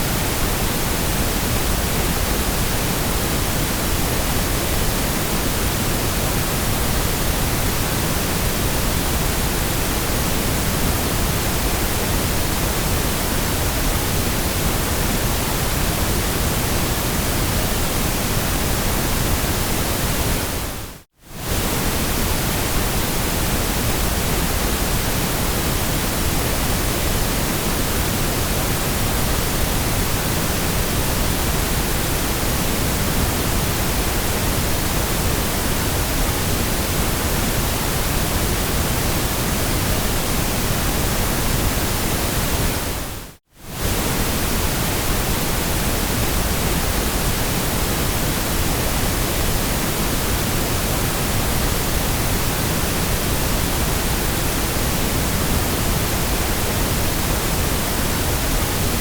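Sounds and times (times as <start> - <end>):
steady white noise: 0.0 - 59.0.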